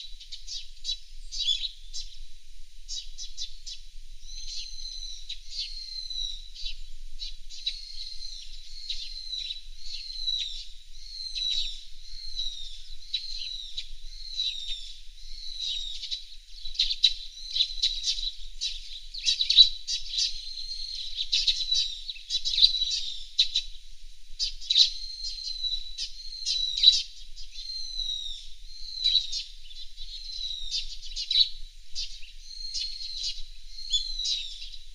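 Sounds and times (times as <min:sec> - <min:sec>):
small birds twittering: 0:00.0 - 0:34.9.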